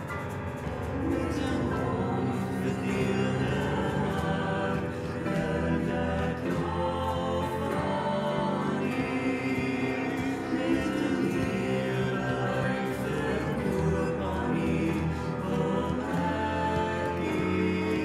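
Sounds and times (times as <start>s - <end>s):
cello: 0.0s - 18.0s
keyboard: 0.0s - 18.0s
man and woman singing: 0.9s - 18.0s.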